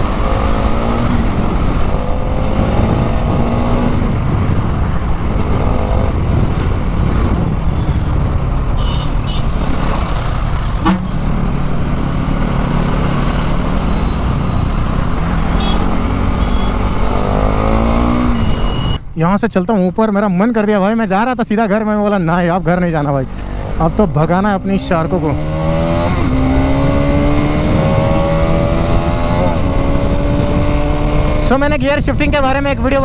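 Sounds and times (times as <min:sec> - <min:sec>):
motorcycle engine revving: 0:00.0 - 0:19.0, 0:23.3 - 0:31.6
wind rushing over microphone: 0:00.0 - 0:19.6, 0:23.2 - 0:33.0.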